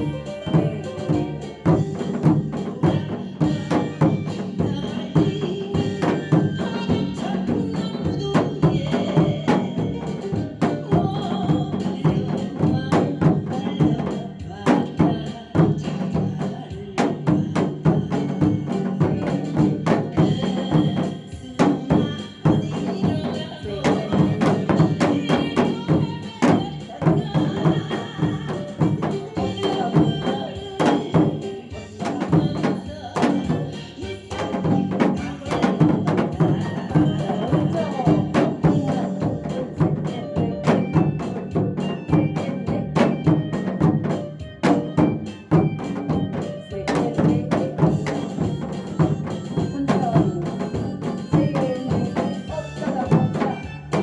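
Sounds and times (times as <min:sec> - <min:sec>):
disco-style backing track: 0:00.0 - 0:54.0
hourglass drum rhythm: 0:00.0 - 0:54.0.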